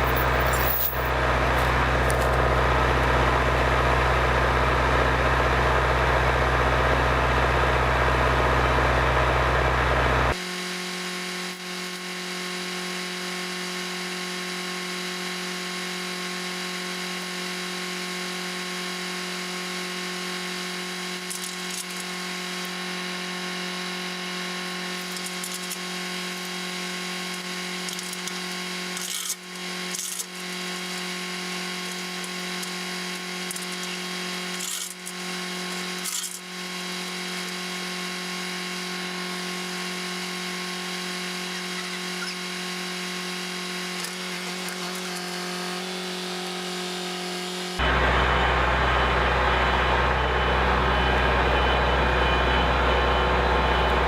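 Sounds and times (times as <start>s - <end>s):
engine-driven machine running: 0.0s - 10.6s, 11.5s - 54.0s.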